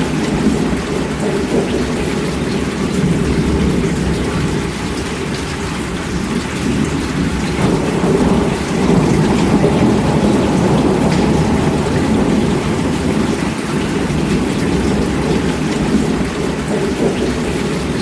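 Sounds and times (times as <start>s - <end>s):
heavy rain: 0.0s - 18.0s
rolling thunder rumble: 0.0s - 18.0s.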